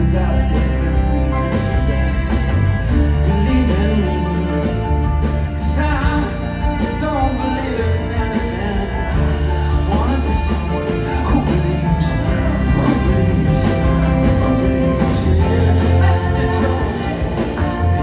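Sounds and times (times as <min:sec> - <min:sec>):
acoustic guitars: 0:00.0 - 0:18.0
drums: 0:00.0 - 0:18.0
person singing: 0:00.0 - 0:18.0.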